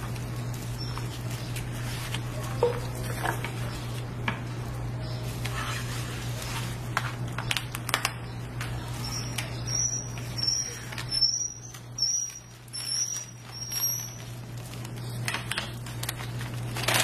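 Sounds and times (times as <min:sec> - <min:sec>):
crepe rustling in gloved hands: 0:00.0 - 0:17.0
sharp crackles and clicks: 0:00.0 - 0:17.0.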